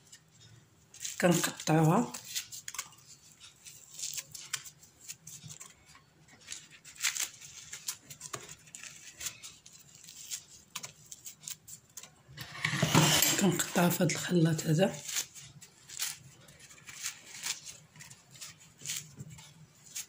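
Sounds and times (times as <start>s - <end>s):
flaky pastry tearing and crackling: 0.0s - 12.4s, 14.6s - 20.0s.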